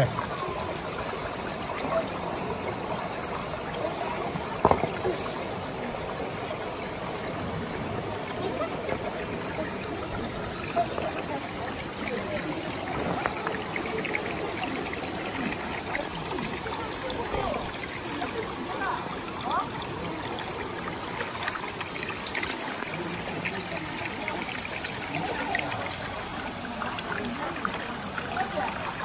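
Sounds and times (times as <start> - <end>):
stream water running over rocks: 0.0 - 29.0.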